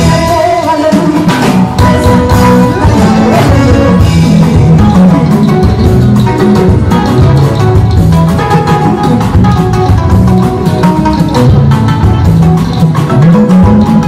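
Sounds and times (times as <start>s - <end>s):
band playing a steady beat: 0.0s - 14.0s.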